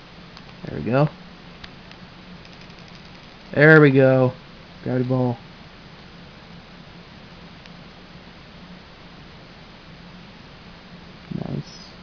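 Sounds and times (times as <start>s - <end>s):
background hiss: 0.0s - 12.0s
faint low hum: 0.0s - 12.0s.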